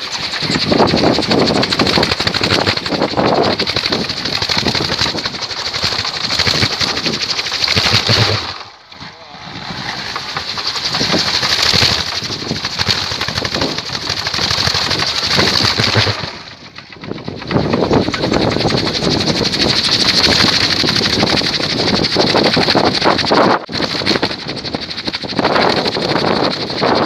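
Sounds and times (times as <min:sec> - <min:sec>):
wind propeller whirring: 0:00.0 - 0:27.0.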